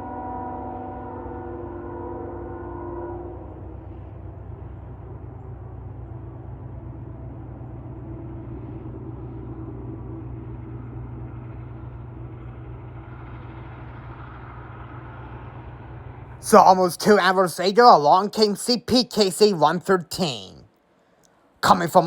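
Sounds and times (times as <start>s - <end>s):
freight train rumbling past: 0.0s - 18.1s.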